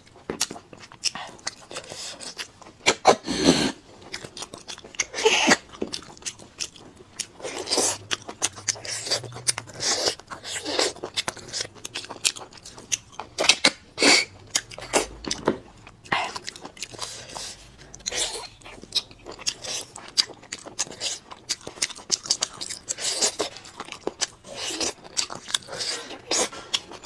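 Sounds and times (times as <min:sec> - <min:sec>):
wet lip smacking and chewing: 0:00.0 - 0:03.1, 0:04.0 - 0:27.0.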